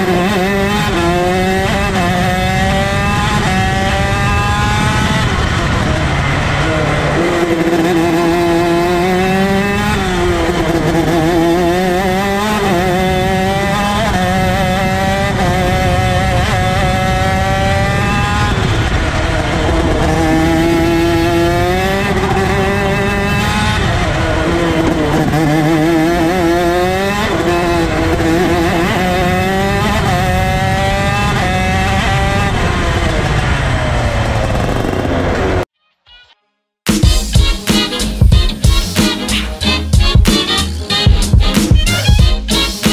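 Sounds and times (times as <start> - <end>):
kart engine revving: 0.0 - 35.7.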